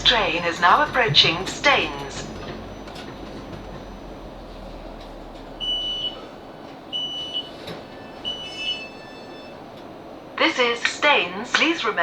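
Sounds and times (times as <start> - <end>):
high electronic door beeps: 0.0 - 10.7
train rumble: 0.0 - 12.0.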